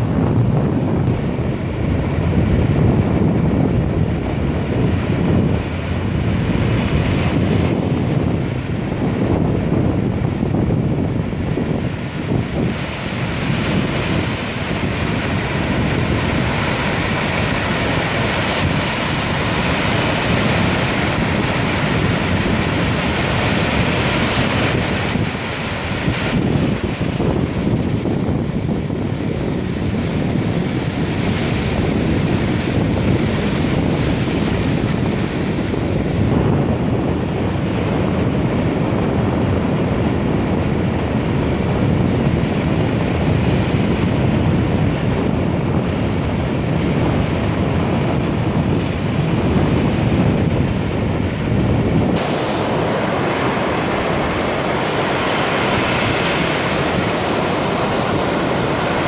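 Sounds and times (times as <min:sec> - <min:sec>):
waves breaking on sandy beach: 0:00.0 - 0:59.0
wind rumbling on microphone: 0:00.0 - 0:59.0.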